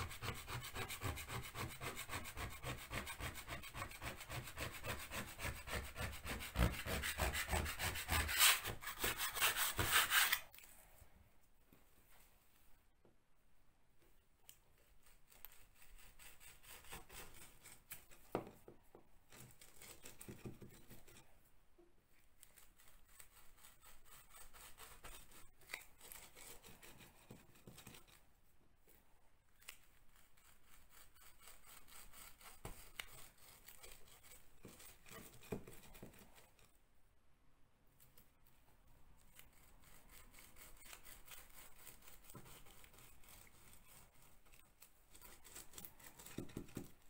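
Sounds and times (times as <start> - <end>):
hand bit scraping into plaster: 0.0 - 10.8, 14.4 - 21.4, 22.1 - 36.8, 39.2 - 47.0.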